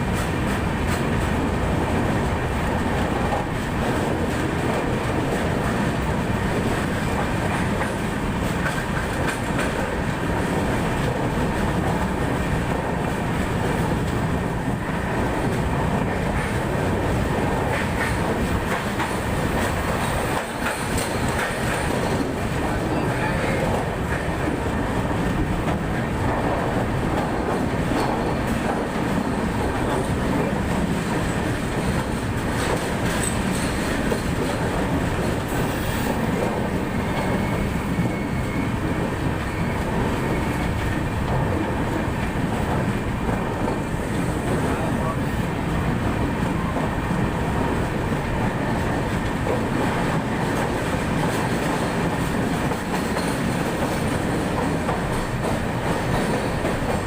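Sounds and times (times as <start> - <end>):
passenger train rumble: 0.0 - 57.0.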